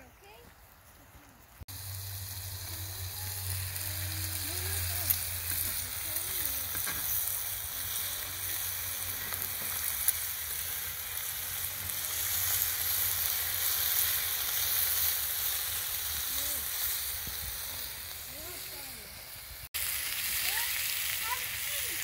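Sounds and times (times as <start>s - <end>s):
meat sizzling on hot stone: 0.6s - 22.0s.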